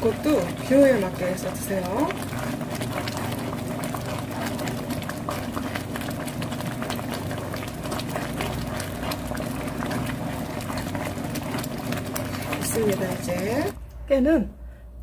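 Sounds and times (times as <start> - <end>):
porridge bubbling: 0.0 - 13.8
spoon stirring: 0.0 - 13.8.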